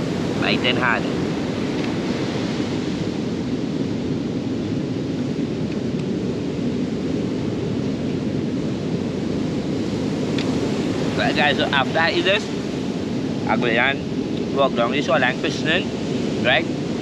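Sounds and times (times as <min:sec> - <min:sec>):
surf on shoreline: 0:00.0 - 0:17.0
wind rumbling on microphone: 0:00.0 - 0:17.0.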